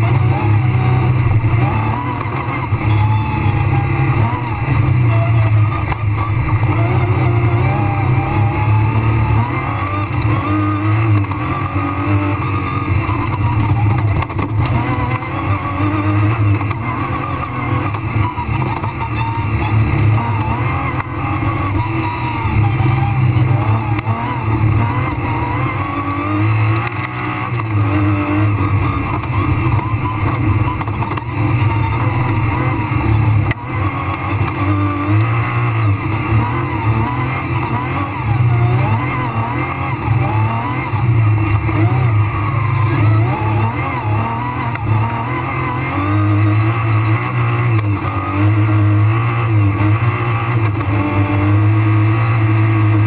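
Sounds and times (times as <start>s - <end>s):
rally car engine revving: 0.0s - 53.0s
tyre and road noise: 0.0s - 53.0s.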